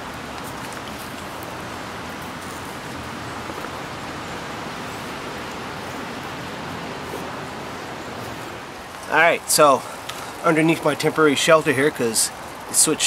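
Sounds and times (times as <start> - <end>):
wet snow falling hiss: 0.0 - 13.0.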